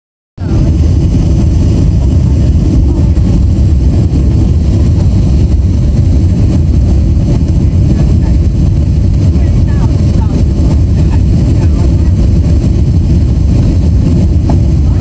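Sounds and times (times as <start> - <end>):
aircraft cabin engine rumble: 0.4 - 15.0.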